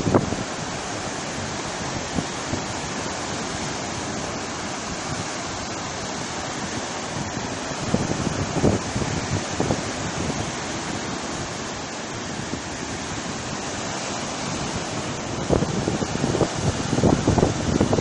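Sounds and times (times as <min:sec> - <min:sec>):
sea surf washing in: 0:00.0 - 0:18.0
wind buffeting microphone: 0:00.0 - 0:18.0.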